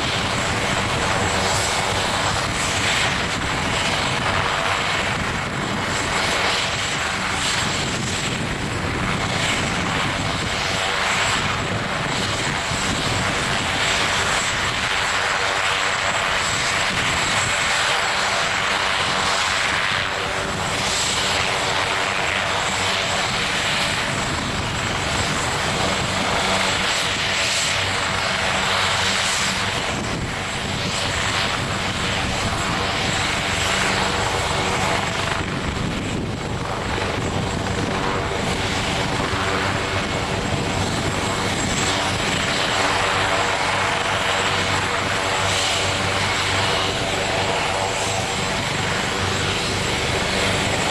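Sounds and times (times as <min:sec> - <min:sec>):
helicopter engine and rotor drone: 0:00.0 - 0:50.9
high turbine whine: 0:00.0 - 0:50.9.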